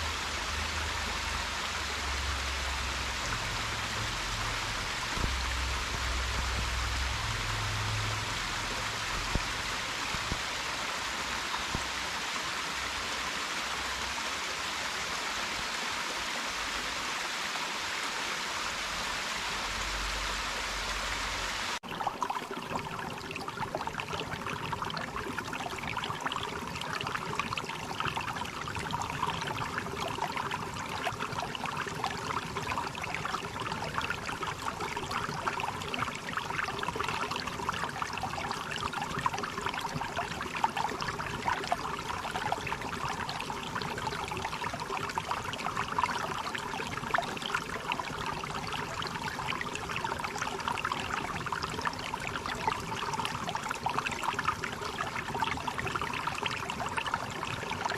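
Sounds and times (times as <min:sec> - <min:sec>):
stream water babbling: 0:00.0 - 0:57.9.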